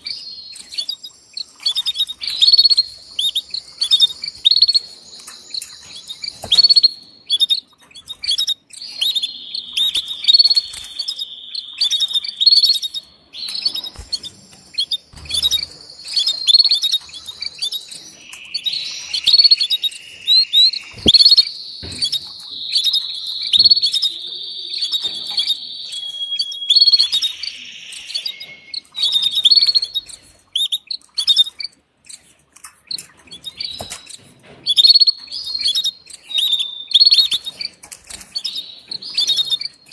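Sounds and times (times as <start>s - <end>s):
canaries chirping and trilling: 0.0s - 39.9s.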